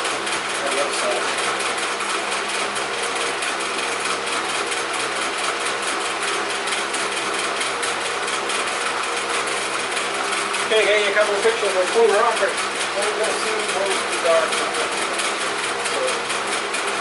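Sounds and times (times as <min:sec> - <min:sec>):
small machine running: 0:00.0 - 0:17.0.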